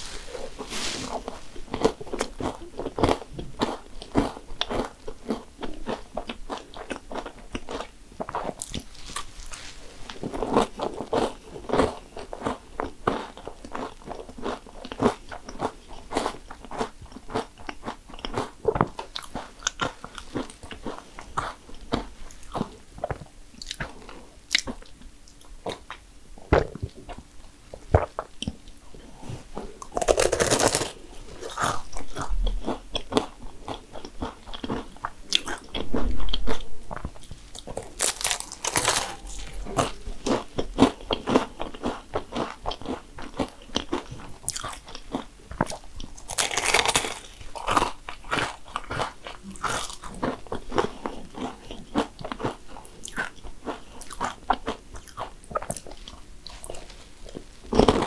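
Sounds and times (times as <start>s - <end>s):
crunching and chewing crisp pastry: 0.0s - 58.0s.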